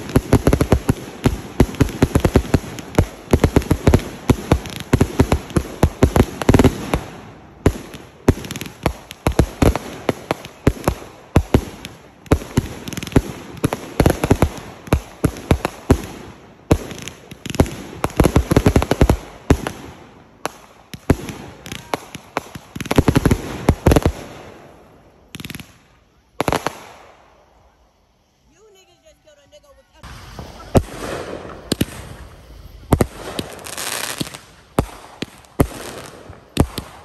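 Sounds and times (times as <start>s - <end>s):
fireworks popping and banging: 0.0s - 24.5s, 25.3s - 25.8s, 30.1s - 37.0s.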